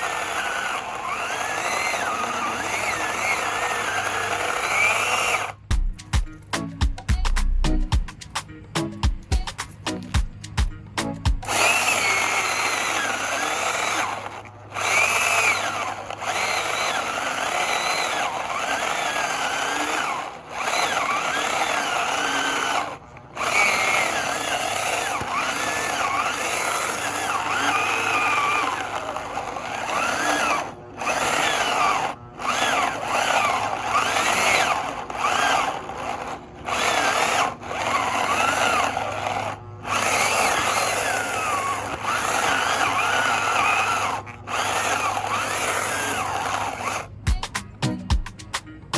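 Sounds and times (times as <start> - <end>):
electric chainsaw running: 0.0 - 6.6, 9.1 - 47.4.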